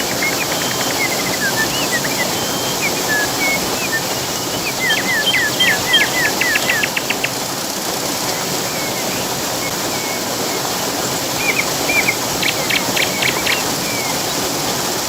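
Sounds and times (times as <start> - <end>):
songbirds singing: 0.0 - 7.5, 8.2 - 14.9
running water rushing: 0.0 - 15.0.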